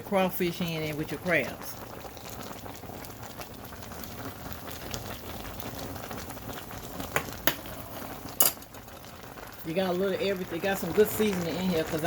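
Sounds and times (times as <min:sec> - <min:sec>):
pot of boil bubbling: 0:00.0 - 0:12.0.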